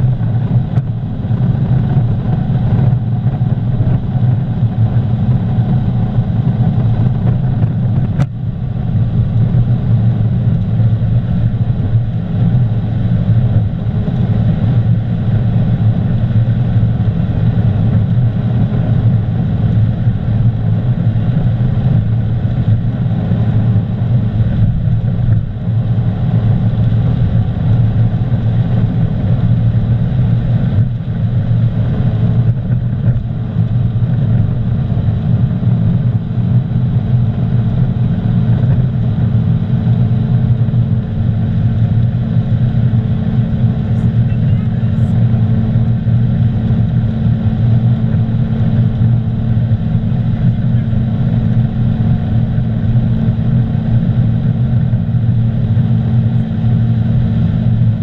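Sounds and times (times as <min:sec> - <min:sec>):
car engine droning at full throttle: 0:00.0 - 0:58.0.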